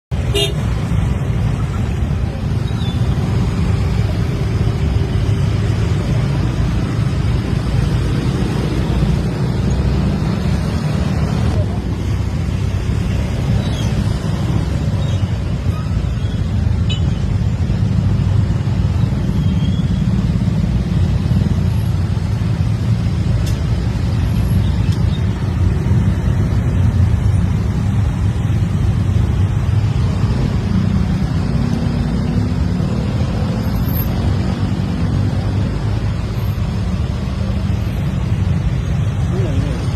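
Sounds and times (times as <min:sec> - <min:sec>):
road traffic rumble: 0:00.1 - 0:39.9.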